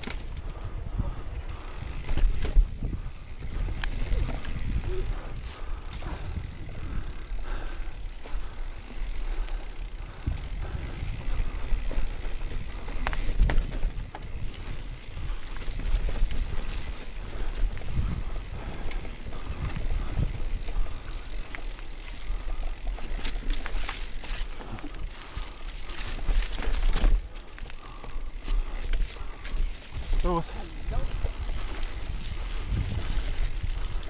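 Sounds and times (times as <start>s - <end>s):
bike rattling and knocking: 0.0s - 34.0s
bike tyres rumbling over dirt: 0.0s - 34.0s.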